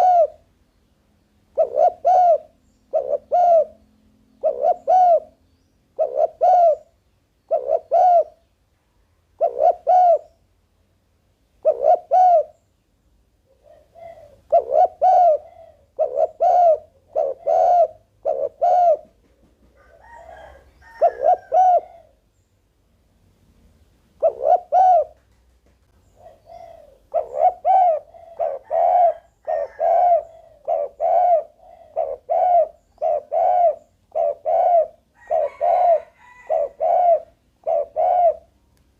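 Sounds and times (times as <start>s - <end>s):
dove cooing: 0.0s - 0.5s, 1.5s - 8.4s, 9.4s - 10.4s, 11.6s - 12.6s, 13.5s - 22.2s, 24.2s - 25.2s, 26.0s - 38.6s.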